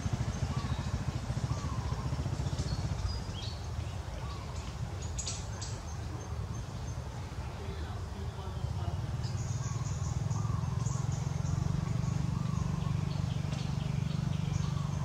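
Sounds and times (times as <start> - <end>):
engine idling with rapid throb: 0.0 - 15.0.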